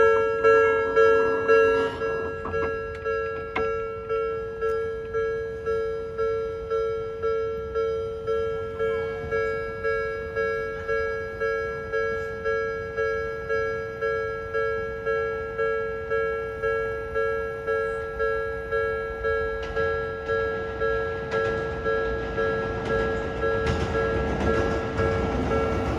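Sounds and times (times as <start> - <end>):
approaching train rushing: 0.0 - 4.6, 8.4 - 25.9
level crossing bell ringing: 0.0 - 25.9.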